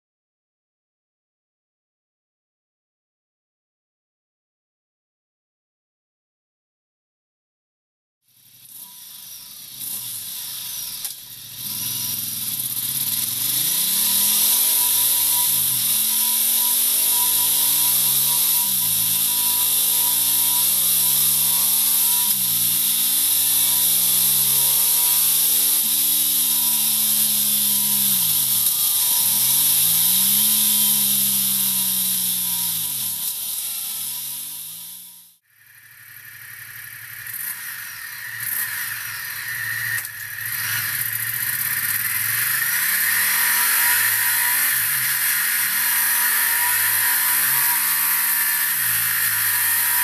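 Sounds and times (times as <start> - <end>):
motorcycle engine revving: 8.4 - 50.0.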